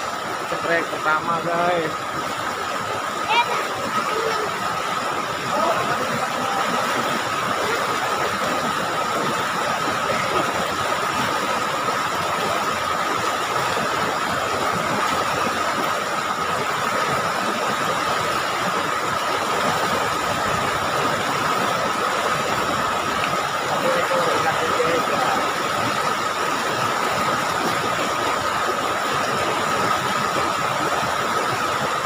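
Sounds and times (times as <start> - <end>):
river rapids rushing over rocks: 0.0 - 32.0.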